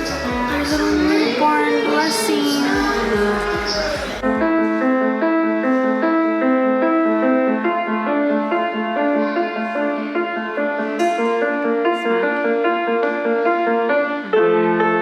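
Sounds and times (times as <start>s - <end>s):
keyboard melody: 0.0s - 15.0s.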